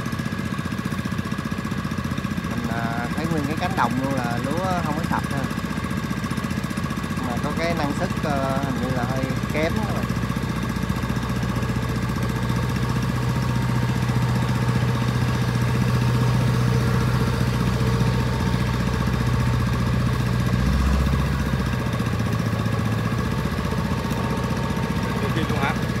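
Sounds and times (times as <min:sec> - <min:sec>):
deep engine rumble: 0:00.0 - 0:26.0
harvester and tractor engines humming: 0:00.0 - 0:26.0.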